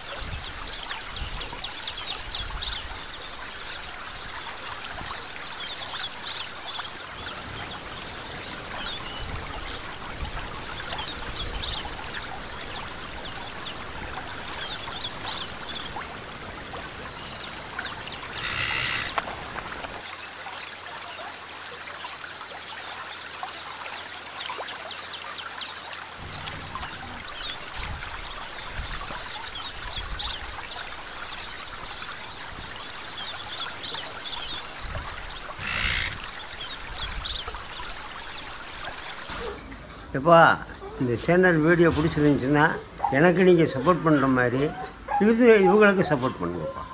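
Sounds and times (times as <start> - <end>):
bird chirping trills: 0.0 - 20.0, 26.1 - 46.9.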